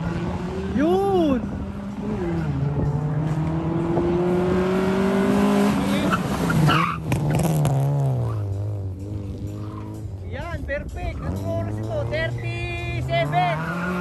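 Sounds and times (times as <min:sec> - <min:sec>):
car engine at high revs: 0:00.0 - 0:10.2, 0:11.2 - 0:14.0.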